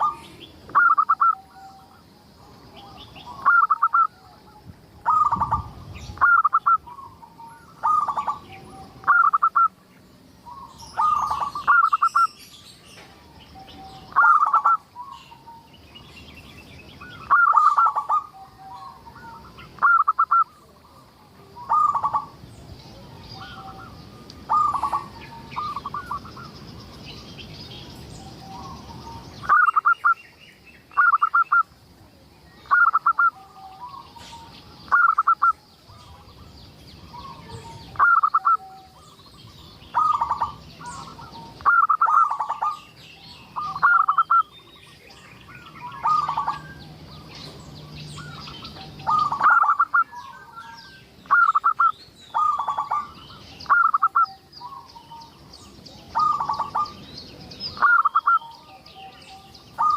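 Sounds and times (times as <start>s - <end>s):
dove cooing: 0.0s - 9.7s, 10.5s - 12.3s, 13.6s - 15.7s, 17.0s - 22.4s, 23.0s - 26.6s, 28.2s - 30.2s, 31.0s - 31.6s, 32.6s - 42.9s, 43.5s - 44.6s, 45.8s - 47.5s, 48.1s - 55.2s, 55.9s - 57.0s, 57.7s - 59.9s
small birds chirping: 0.0s - 59.9s.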